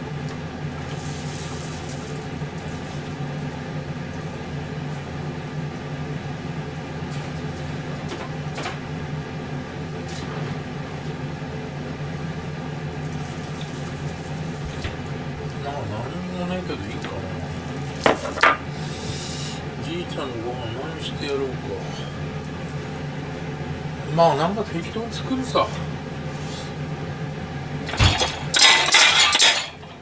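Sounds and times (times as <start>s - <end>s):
kitchen appliance humming: 0.0s - 30.0s.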